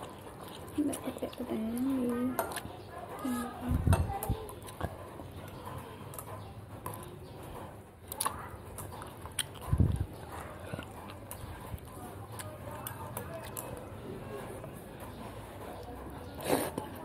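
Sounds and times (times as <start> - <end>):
person chewing: 0.0 - 2.8, 4.5 - 17.0.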